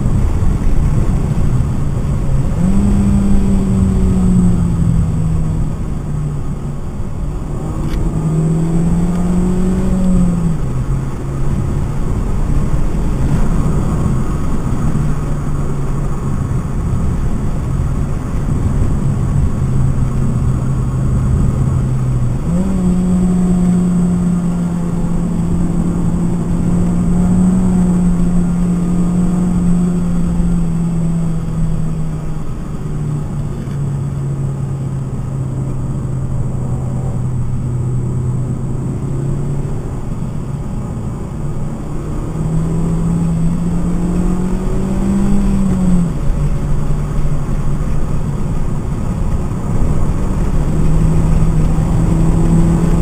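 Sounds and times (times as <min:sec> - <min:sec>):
car engine revving: 0:00.0 - 0:53.0
road and tyre noise: 0:00.0 - 0:53.0.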